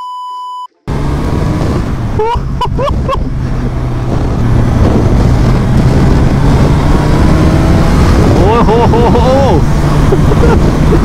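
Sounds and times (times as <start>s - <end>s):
wind rush: 0.9s - 11.0s.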